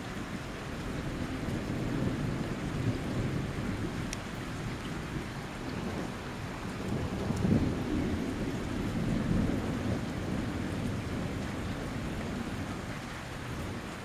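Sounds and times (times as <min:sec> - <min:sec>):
steady rain falling: 0:00.0 - 0:14.0
distant thunder rumbling: 0:00.8 - 0:14.0.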